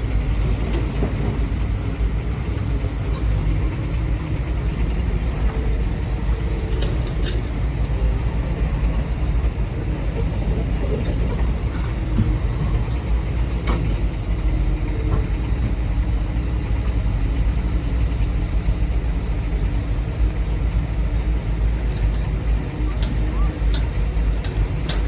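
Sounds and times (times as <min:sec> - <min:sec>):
low machine rumble: 0:00.0 - 0:25.0.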